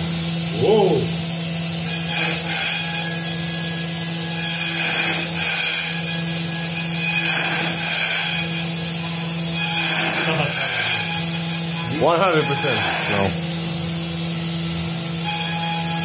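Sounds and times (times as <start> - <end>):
high-pitched hiss of cutting foam: 0.0 - 16.0
milling spindle humming: 0.0 - 16.0.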